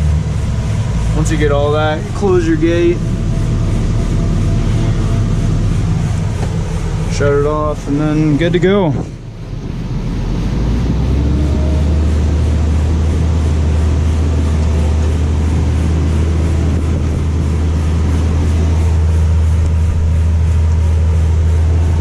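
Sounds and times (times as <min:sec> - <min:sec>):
farm machine engine droning: 0:00.0 - 0:22.0.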